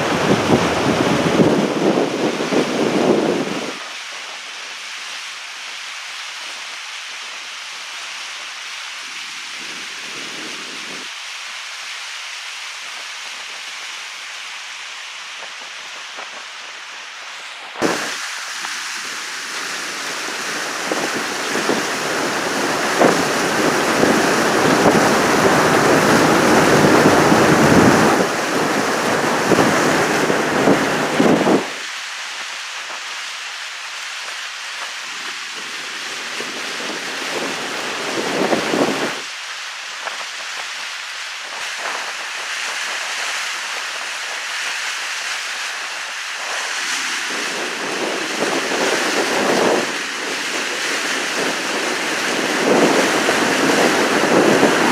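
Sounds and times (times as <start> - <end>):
steady rushing noise: 0.0 - 54.9.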